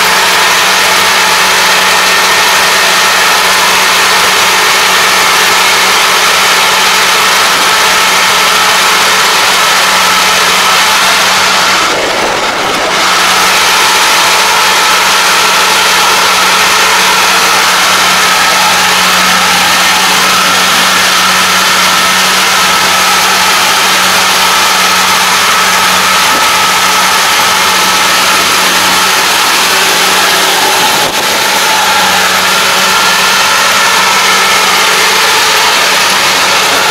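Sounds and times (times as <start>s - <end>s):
combine harvester running: 0.0s - 36.9s
steady machinery whine: 0.0s - 36.9s.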